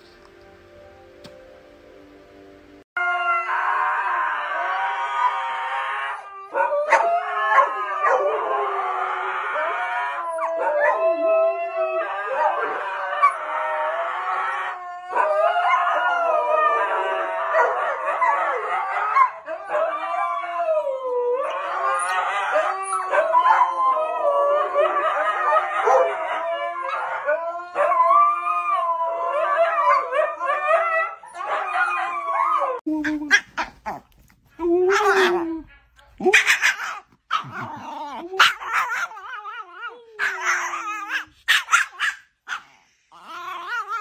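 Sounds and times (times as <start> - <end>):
dogs howling: 3.0 - 32.9, 36.2 - 42.2, 43.1 - 44.0.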